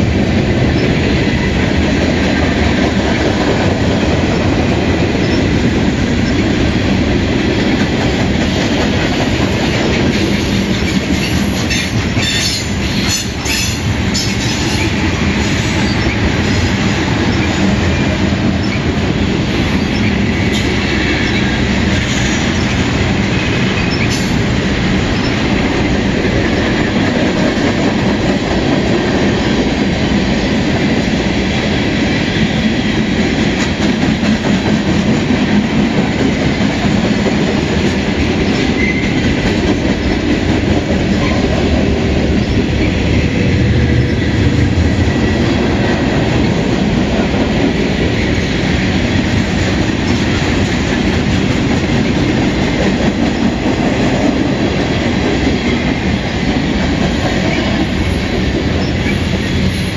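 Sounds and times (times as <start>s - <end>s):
freight train rumbling on rails: 0.0s - 59.9s.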